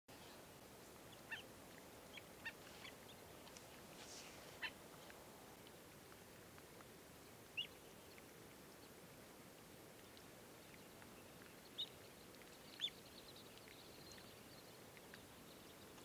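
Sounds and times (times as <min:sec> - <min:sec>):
faint steady hiss: 0:00.1 - 0:16.0.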